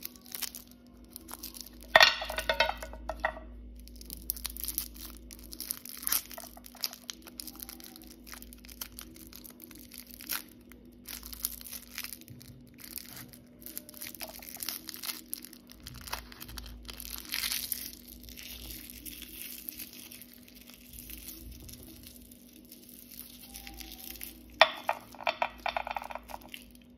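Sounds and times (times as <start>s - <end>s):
plastic wrapper crinkling: 0.0s - 26.9s.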